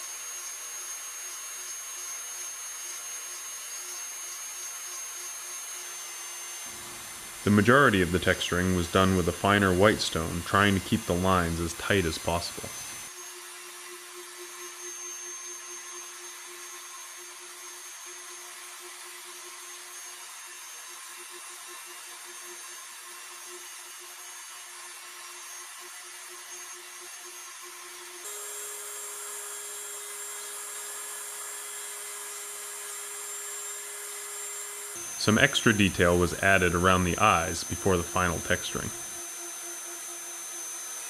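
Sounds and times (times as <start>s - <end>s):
rotary tool whining: 0.0s - 41.0s.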